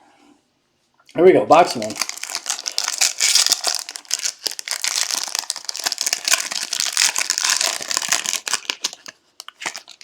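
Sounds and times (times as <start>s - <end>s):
plastic wrapping crinkling and tearing: 1.8s - 10.0s.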